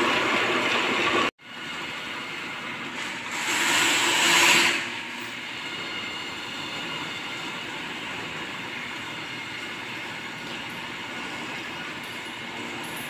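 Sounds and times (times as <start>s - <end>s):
drain-cleaning machine running: 0.0s - 13.0s.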